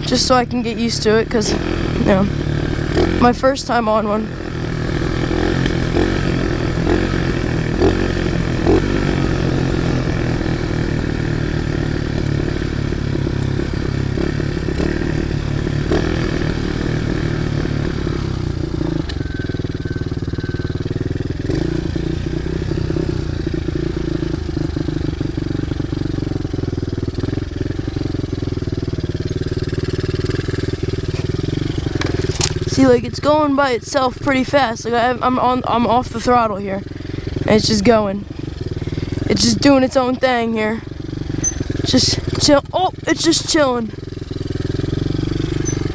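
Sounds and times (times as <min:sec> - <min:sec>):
small motorbike engine running: 0:00.0 - 0:45.9.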